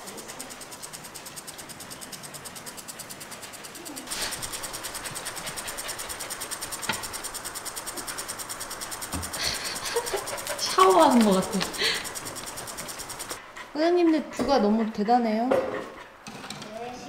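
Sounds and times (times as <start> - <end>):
lawn sprinkler pulsing hiss: 0.0 - 14.0.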